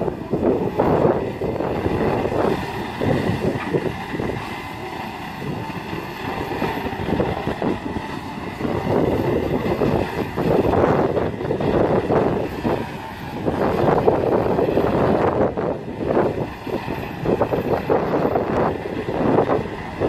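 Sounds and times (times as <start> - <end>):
excavator diesel engine and hydraulics: 0.0 - 20.0.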